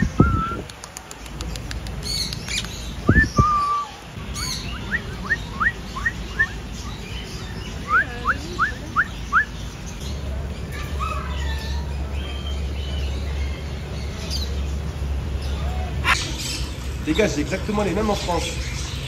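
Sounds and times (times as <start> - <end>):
parrots chirping: 0.0 - 19.0.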